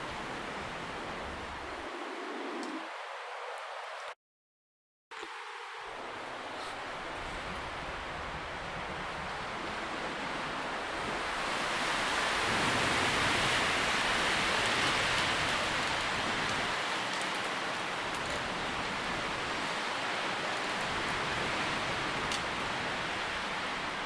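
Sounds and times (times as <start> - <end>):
wind rustling through leaves: 0.0 - 4.2, 5.1 - 24.0.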